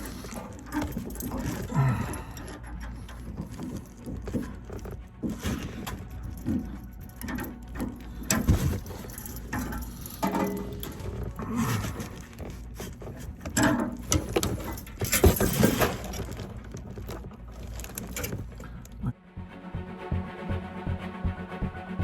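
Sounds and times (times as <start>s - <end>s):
irregular knocks and clatter: 0.0s - 19.1s.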